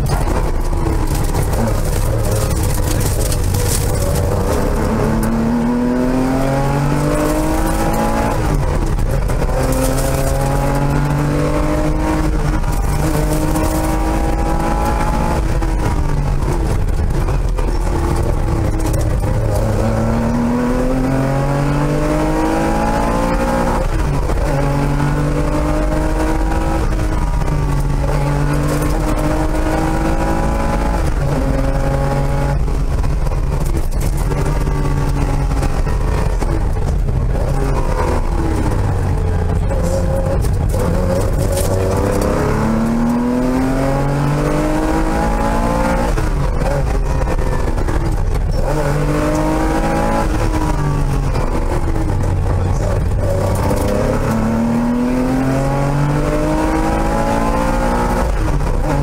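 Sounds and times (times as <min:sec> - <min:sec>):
rally car engine revving: 0:00.0 - 0:59.0
road and wind noise: 0:00.0 - 0:59.0.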